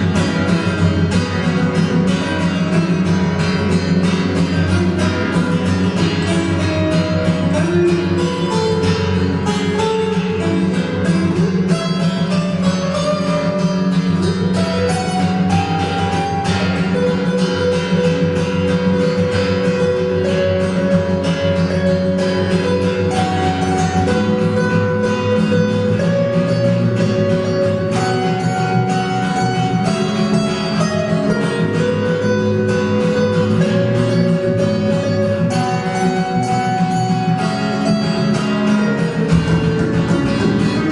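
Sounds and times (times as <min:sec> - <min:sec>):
picked guitar melody: 0:00.0 - 0:40.9
strummed guitar rhythm: 0:00.0 - 0:40.9.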